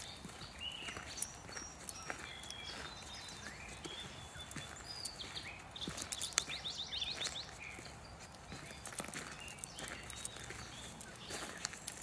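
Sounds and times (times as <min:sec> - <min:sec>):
footsteps on sandy dirt path: 0:00.0 - 0:12.0
songbirds singing and calling: 0:00.0 - 0:12.0.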